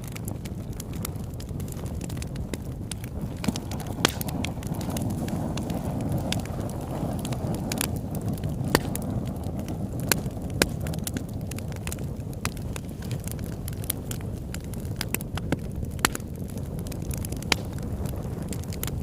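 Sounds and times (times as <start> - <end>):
campfire burning and crackling: 0.0 - 19.0.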